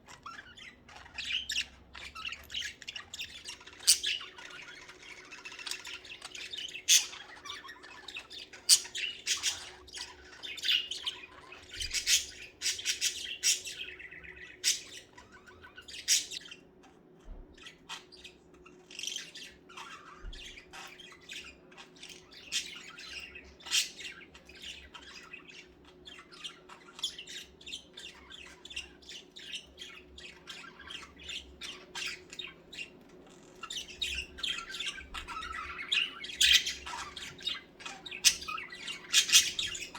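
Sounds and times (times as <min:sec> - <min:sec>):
budgerigars chattering: 0:00.0 - 0:16.7, 0:17.6 - 0:39.9
faint steady hum: 0:00.0 - 0:39.9.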